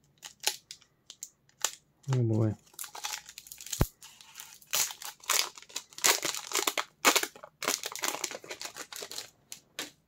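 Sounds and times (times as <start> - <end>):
foil wrapper crinkling: 1.6 - 9.6.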